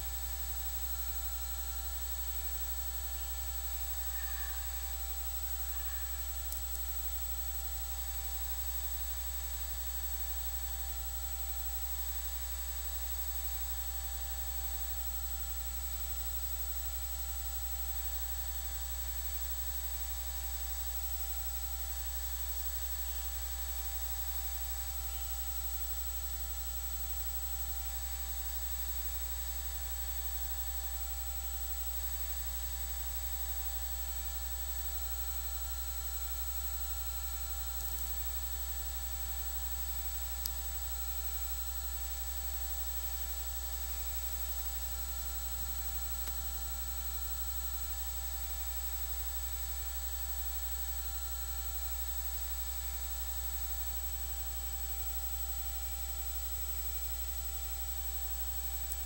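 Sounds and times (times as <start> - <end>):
electrical hum and hiss: 0.0 - 59.0
faint electrical whines: 0.0 - 59.0.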